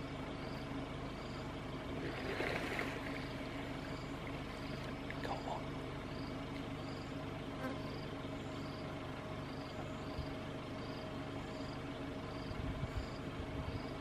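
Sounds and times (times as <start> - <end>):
insect chirping: 0.0 - 14.0
steady low hum: 0.0 - 14.0.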